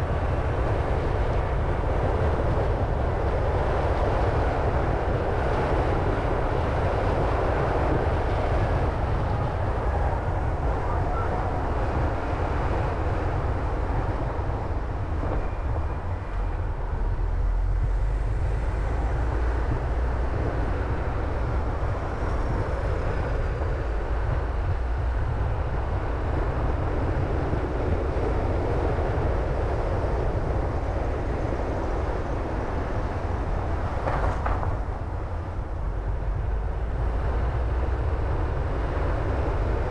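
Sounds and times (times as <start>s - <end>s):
low engine rumble: 0.0s - 39.9s
tyre and road noise: 0.0s - 39.9s.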